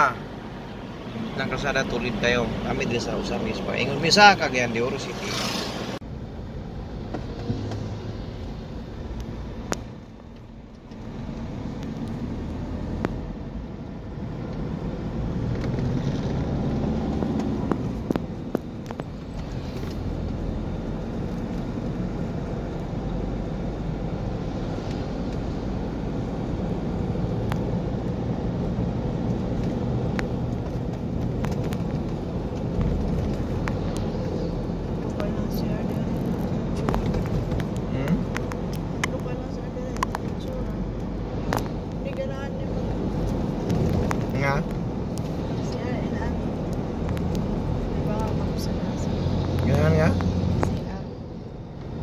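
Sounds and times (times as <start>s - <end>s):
car cabin road rumble: 0.0s - 52.0s.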